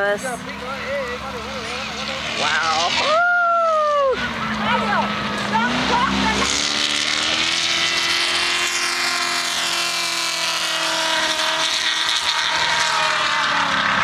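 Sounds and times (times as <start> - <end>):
engine revving passing by: 0.0 - 14.0.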